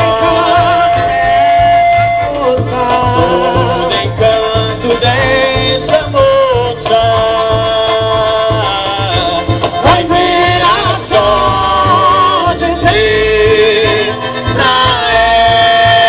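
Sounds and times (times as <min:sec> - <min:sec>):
loud dance music: 0:00.0 - 0:16.0.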